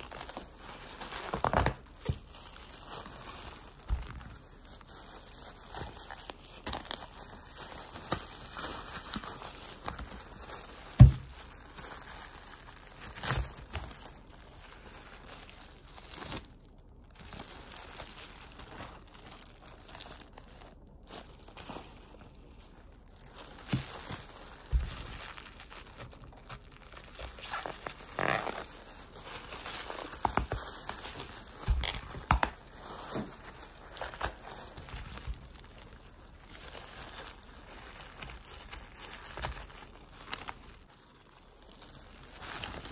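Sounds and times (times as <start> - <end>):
rustling and crinkling of gloves and paper: 0.0 - 42.9.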